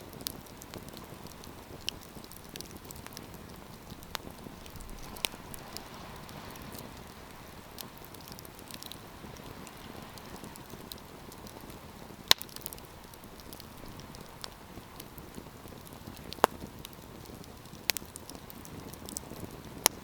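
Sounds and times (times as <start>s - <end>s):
campfire crackling and popping: 0.0s - 20.0s
soft steady fire hiss: 0.0s - 20.0s.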